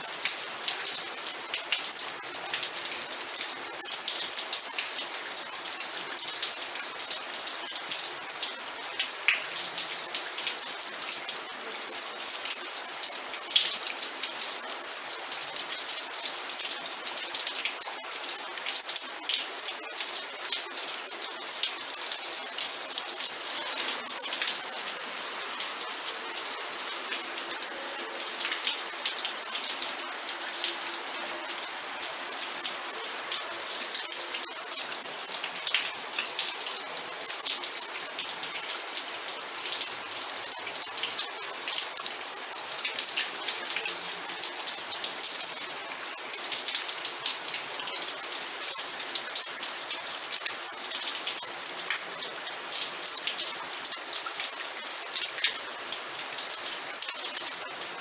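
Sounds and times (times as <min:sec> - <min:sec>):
rain drops pattering: 0:00.0 - 0:58.0.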